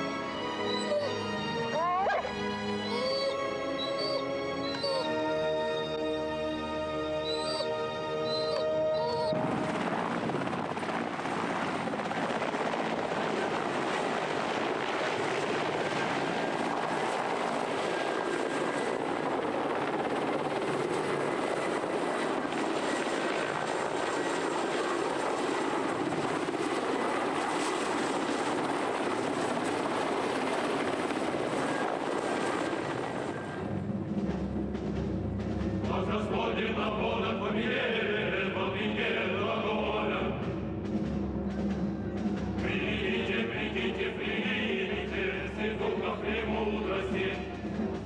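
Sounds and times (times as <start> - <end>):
helicopter hovering: 0.0 - 48.0.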